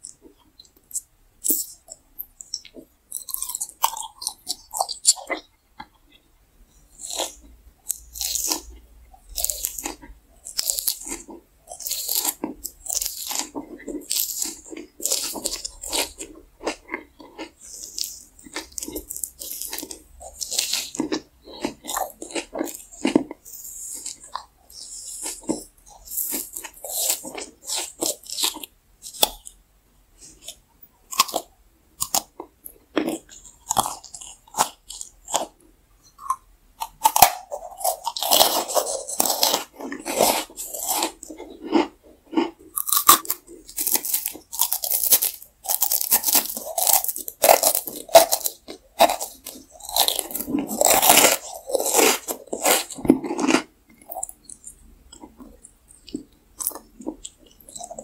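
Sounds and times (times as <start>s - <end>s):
chewing gummy candy: 0.0s - 6.2s, 6.9s - 29.6s, 30.2s - 58.0s.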